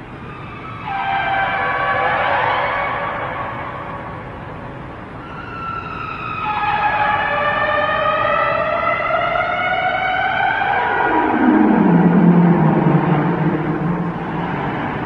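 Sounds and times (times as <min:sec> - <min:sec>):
siren-like tone gliding downward: 0:00.4 - 0:04.2, 0:05.2 - 0:15.0.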